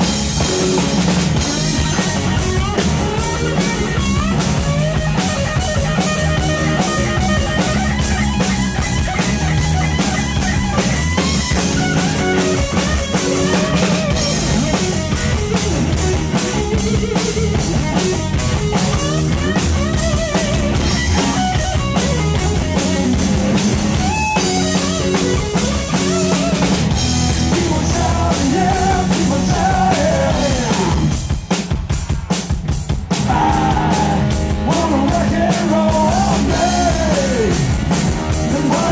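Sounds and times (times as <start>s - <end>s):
electric guitar: 0.0s - 32.3s, 33.1s - 38.9s
bass guitar: 0.0s - 38.9s
drums: 0.0s - 38.9s.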